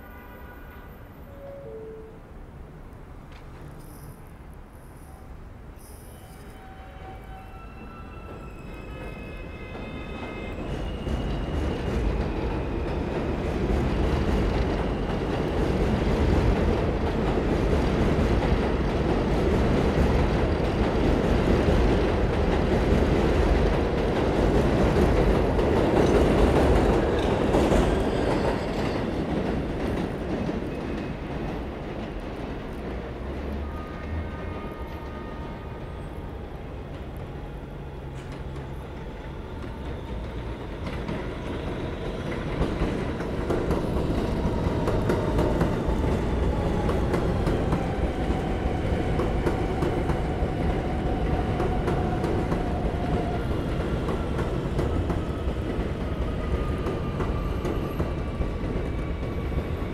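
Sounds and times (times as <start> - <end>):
subway train rumbling: 0.0 - 59.9.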